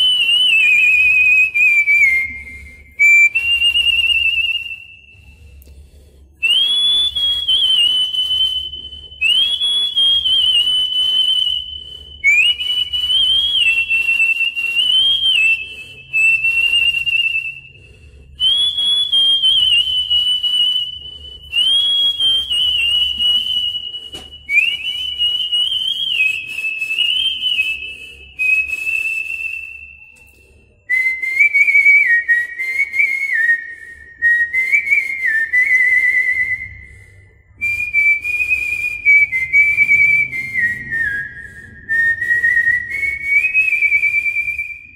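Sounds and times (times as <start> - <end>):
man whistling a melody: 0.0 - 5.8, 6.4 - 44.9.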